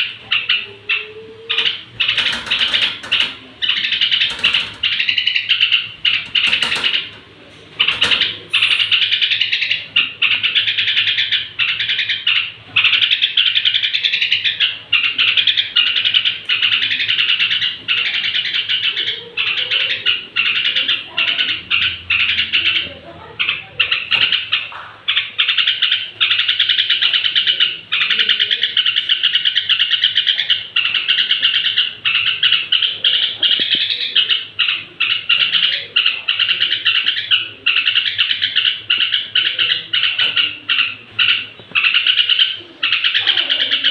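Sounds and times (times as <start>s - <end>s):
bird singing and chattering: 0.0s - 43.9s.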